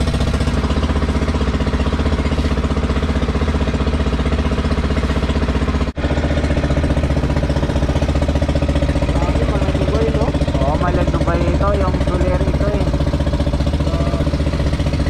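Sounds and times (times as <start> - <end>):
boat motor chugging: 0.0 - 15.0.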